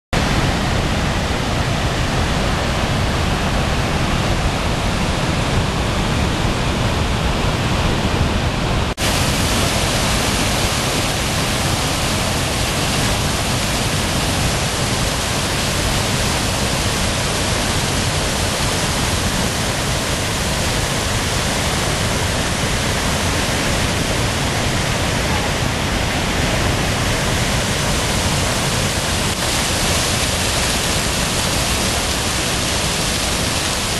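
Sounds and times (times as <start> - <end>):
waterfall rushing over rocks: 0.2 - 33.9.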